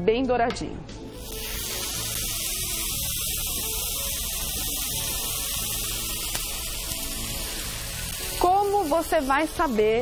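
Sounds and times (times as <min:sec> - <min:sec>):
steak sizzling in a frying pan: 0:01.1 - 0:10.0.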